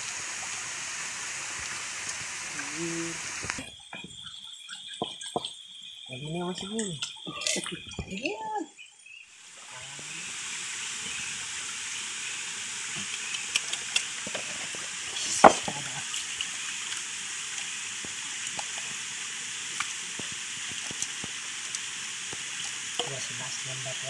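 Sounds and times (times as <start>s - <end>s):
stream running over rocks: 0.0s - 24.0s.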